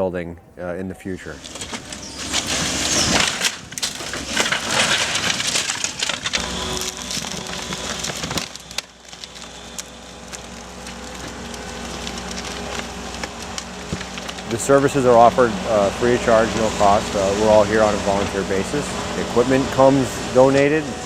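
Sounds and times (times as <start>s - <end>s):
wood cracking and splintering: 1.4s - 21.0s.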